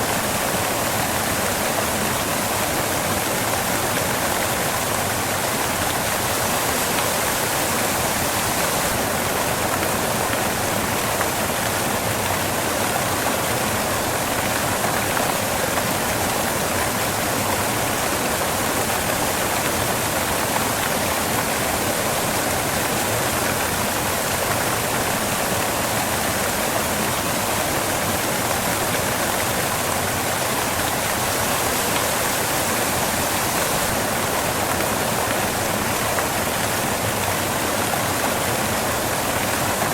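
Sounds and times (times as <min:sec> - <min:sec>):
waterfall crashing off rocks: 0:00.0 - 0:39.9.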